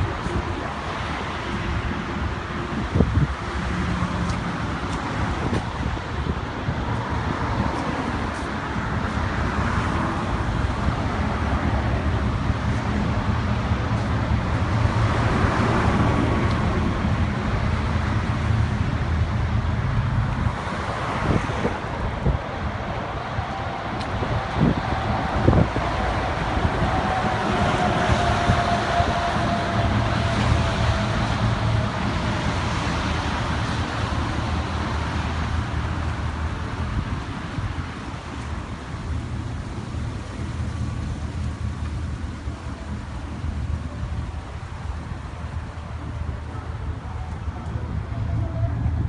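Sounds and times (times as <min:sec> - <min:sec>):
car engines running: 0:00.0 - 0:49.0
wind on microphone: 0:00.0 - 0:49.0.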